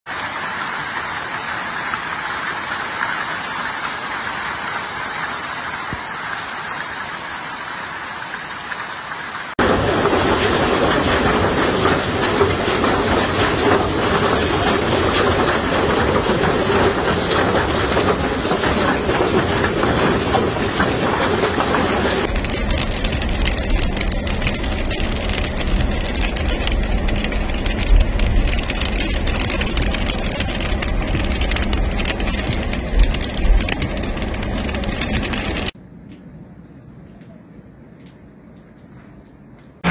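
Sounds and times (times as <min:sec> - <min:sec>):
hail and rain pelting down: 0:00.1 - 0:35.8.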